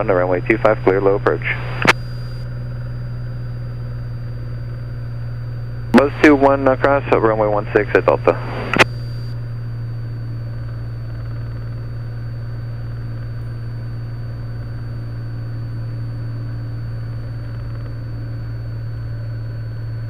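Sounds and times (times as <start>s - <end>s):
propeller aircraft engine drone: 0.0s - 20.0s.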